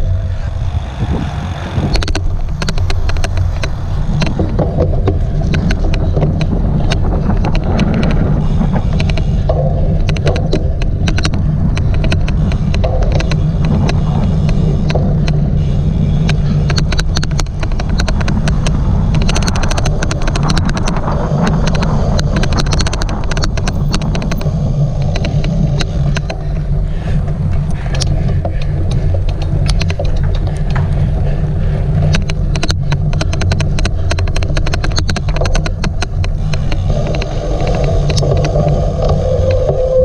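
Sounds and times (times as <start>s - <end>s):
sharp bike clicks: 0.0s - 40.0s
wind noise on microphone: 0.0s - 40.0s.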